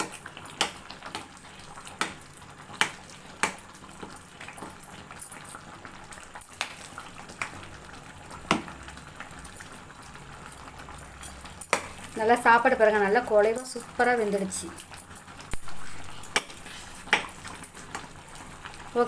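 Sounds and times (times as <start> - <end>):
soft steady bubbling: 0.0 - 19.0.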